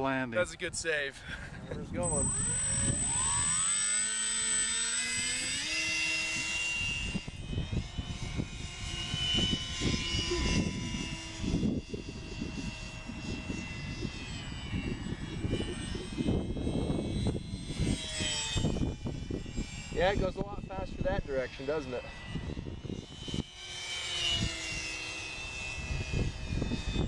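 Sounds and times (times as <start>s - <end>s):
wind buffeting microphone: 0.4s - 4.0s, 4.7s - 23.5s, 24.3s - 27.0s
model plane motor whining: 2.0s - 27.0s.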